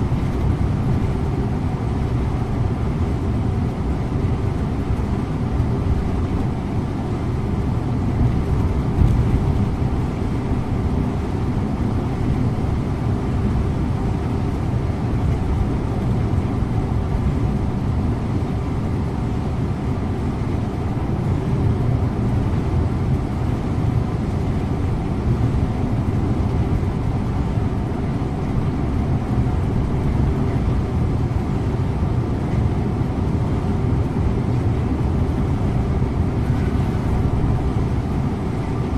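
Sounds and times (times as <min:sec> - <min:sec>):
coach diesel engine drone: 0:00.0 - 0:38.9.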